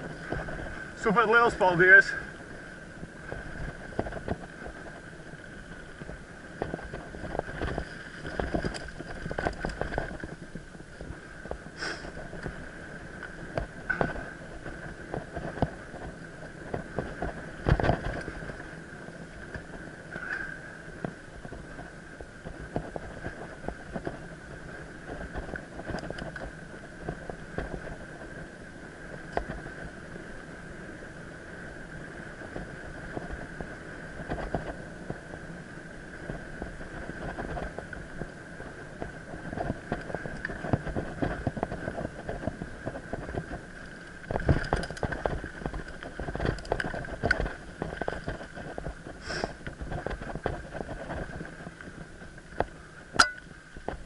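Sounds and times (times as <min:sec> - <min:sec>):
bike rattling and knocking: 0:00.0 - 0:02.2, 0:02.9 - 0:30.1, 0:32.4 - 0:54.0
bike tyres on dirt: 0:00.0 - 0:54.0.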